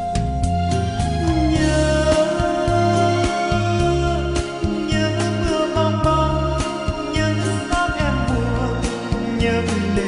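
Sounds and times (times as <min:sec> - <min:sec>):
backing track with beat and bass: 0:00.0 - 0:10.0
man singing into a microphone: 0:01.2 - 0:10.0.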